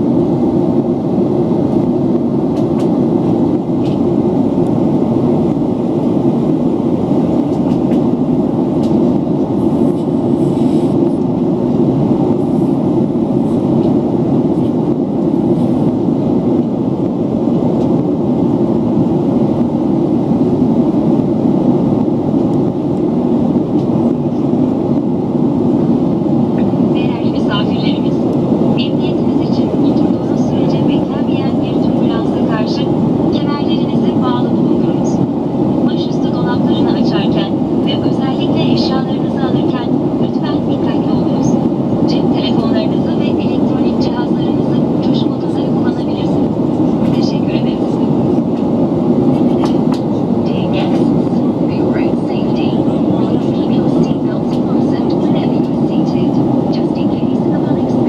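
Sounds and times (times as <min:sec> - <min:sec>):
jet engine roar in cabin: 0:00.0 - 0:58.0.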